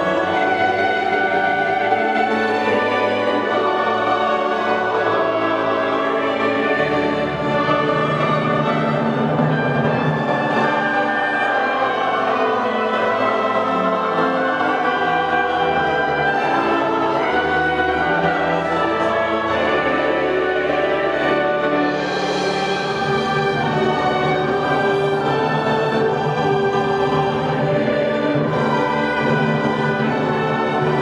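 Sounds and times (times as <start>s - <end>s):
orchestra playing classical music: 0.0s - 31.0s.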